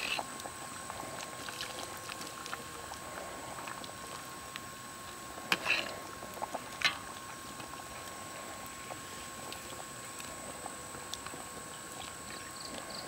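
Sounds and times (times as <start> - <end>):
small scattered crackles: 0.0 - 13.0.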